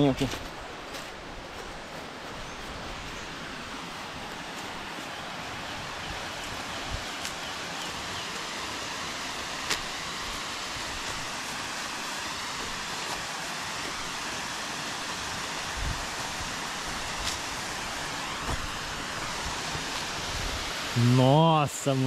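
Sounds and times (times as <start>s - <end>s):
waterfall rushing: 2.6s - 22.0s.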